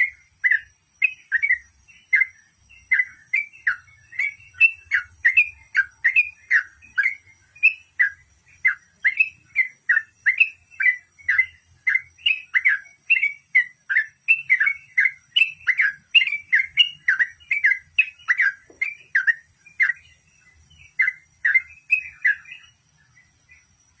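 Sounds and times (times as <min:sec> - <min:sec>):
bulbul singing whistled notes: 0:00.0 - 0:24.0.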